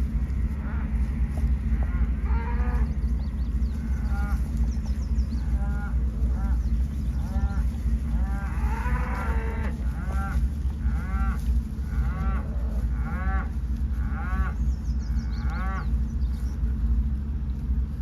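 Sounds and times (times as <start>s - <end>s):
farm animal calling: 0.0s - 18.0s
steady low rumble: 0.0s - 18.0s.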